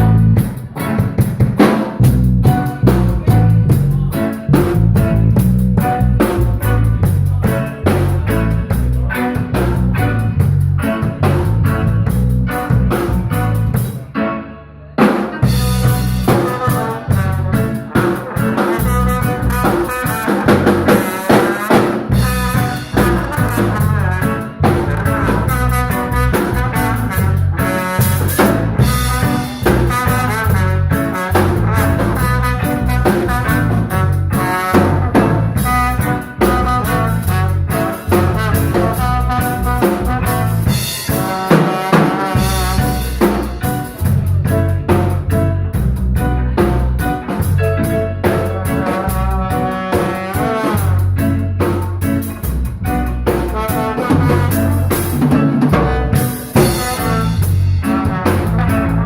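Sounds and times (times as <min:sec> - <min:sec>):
drum kit rimshots: 0:00.0 - 0:14.2, 0:15.0 - 0:59.0
live jazz band: 0:00.0 - 0:14.4, 0:15.0 - 0:59.0
heavy bass line: 0:00.0 - 0:59.0.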